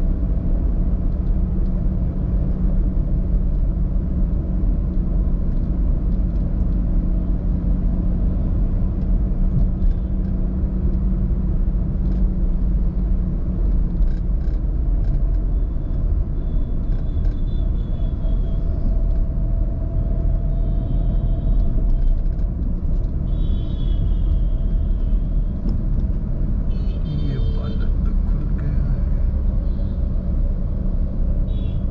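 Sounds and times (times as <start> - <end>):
car engine and tyres rumbling: 0.0 - 31.9.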